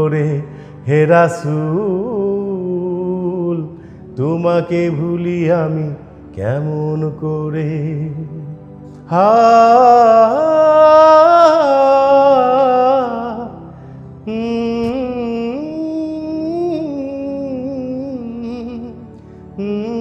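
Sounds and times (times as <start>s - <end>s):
man singing wordless melody: 0.0s - 20.0s.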